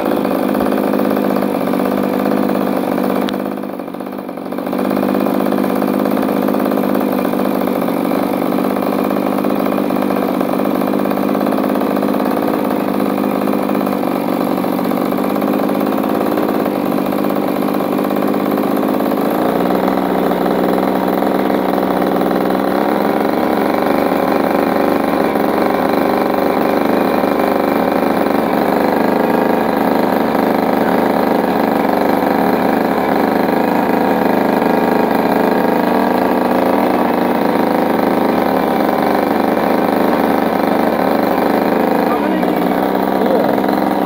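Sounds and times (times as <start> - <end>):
small two-stroke engine running: 0.0 - 44.0.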